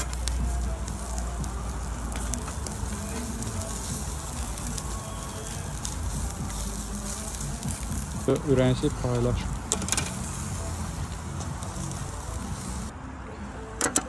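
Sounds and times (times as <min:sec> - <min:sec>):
charcoal crackles and pops: 0:00.0 - 0:12.9
meat sizzling over charcoal: 0:00.0 - 0:12.9.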